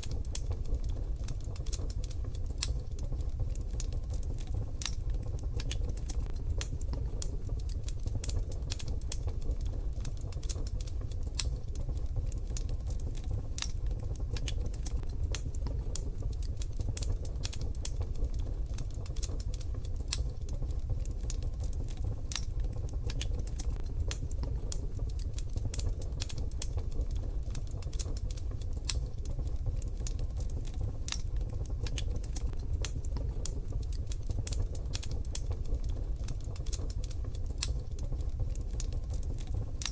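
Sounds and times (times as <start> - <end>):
steady low rumble: 0.0 - 39.9
wood fire crackling in stove: 0.0 - 39.9.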